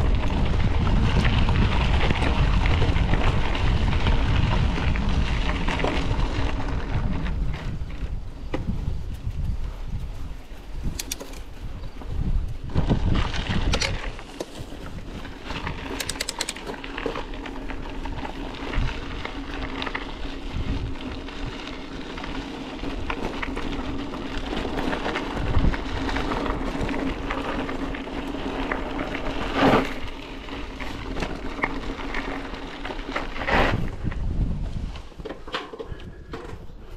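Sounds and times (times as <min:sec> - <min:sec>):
bicycle rattling over bumps: 0:00.0 - 0:36.9
bicycle tyres crunching on gravel: 0:00.0 - 0:36.9.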